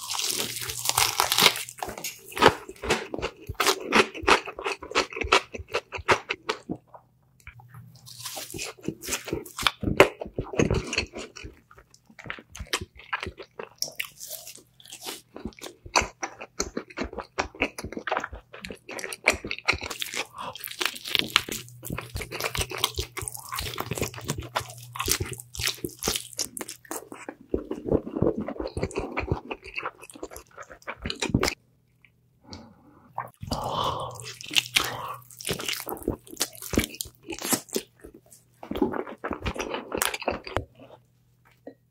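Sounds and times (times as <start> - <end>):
crunchy eating and wet chewing: 0.0 - 31.6, 32.6 - 41.9.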